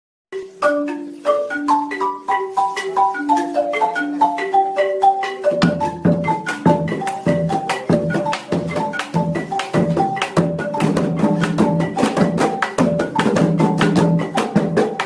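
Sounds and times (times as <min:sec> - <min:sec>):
marimba melody: 0:00.3 - 0:15.0.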